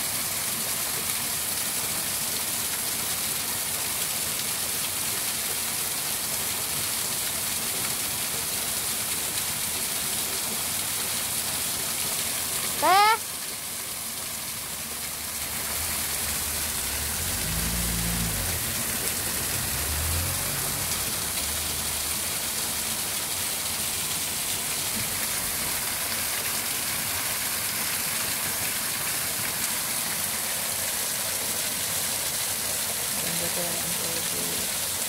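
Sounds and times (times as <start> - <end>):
small waterfall rushing: 0.0 - 35.0.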